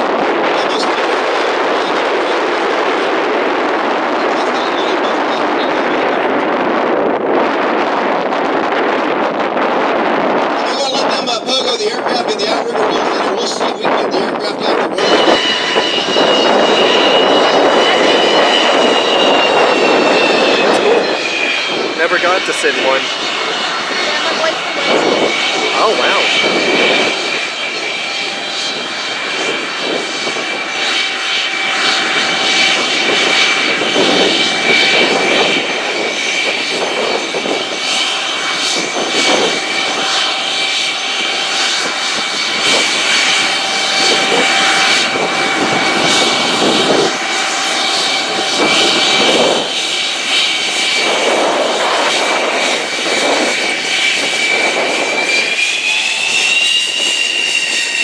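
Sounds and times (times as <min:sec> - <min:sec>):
jet engine whine and rush: 0:00.0 - 0:58.0.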